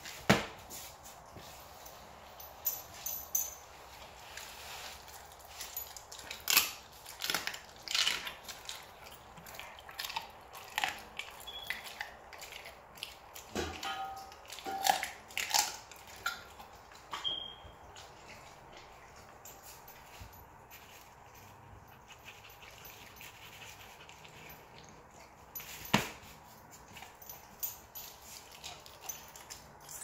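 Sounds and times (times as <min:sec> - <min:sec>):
dog chewing and crunching: 0:00.0 - 0:30.0.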